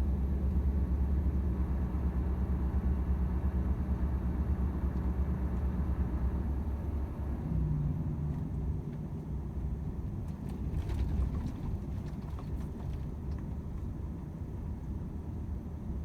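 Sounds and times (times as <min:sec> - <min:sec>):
diesel truck engine rumble: 0:00.0 - 0:16.0.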